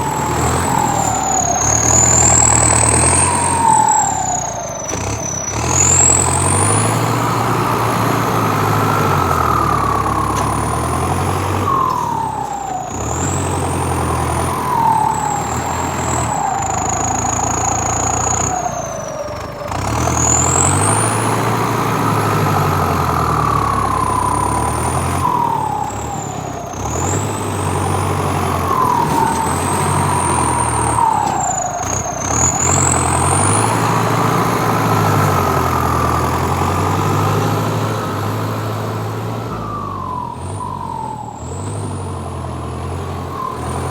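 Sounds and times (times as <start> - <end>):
engine whining: 0.0 - 43.9.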